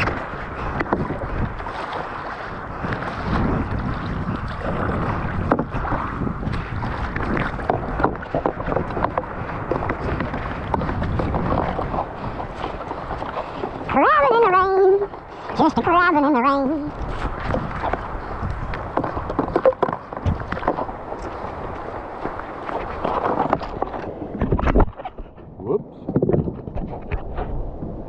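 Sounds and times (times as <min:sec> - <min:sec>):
water splashing around a kayak: 0:00.0 - 0:28.0
wind buffeting the microphone: 0:00.0 - 0:28.0.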